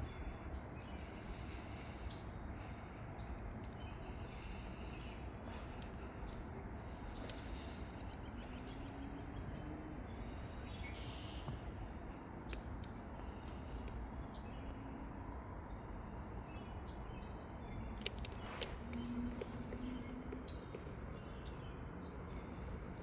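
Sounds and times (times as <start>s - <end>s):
small songbirds chirping: 0.0s - 23.0s
steady low background noise: 0.0s - 23.0s.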